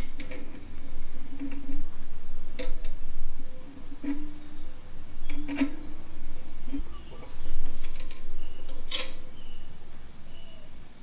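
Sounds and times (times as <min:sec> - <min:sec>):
low banjo ringing: 0:00.0 - 0:10.9.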